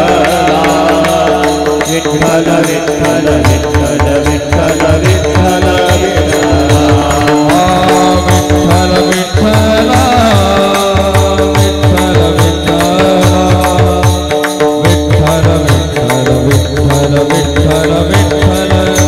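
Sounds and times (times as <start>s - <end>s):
steady drum rhythm: 0.0s - 19.0s.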